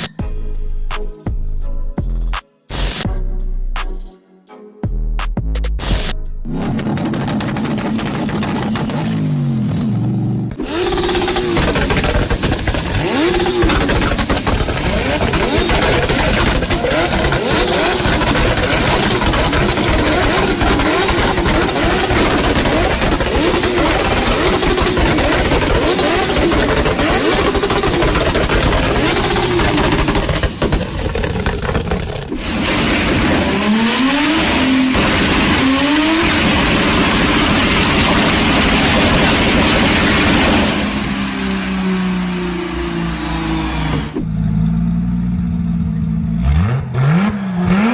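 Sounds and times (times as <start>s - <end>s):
loud modified car exhaust: 5.8s - 47.9s.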